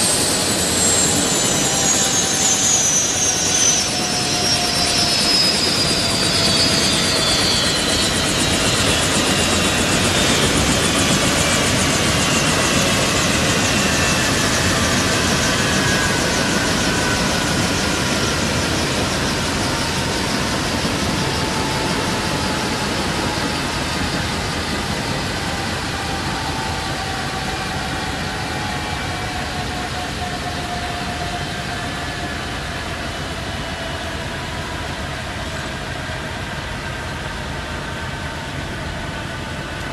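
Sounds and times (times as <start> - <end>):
turbine whine falling: 0.0 - 35.8
helicopter rotor rushing: 0.0 - 39.9.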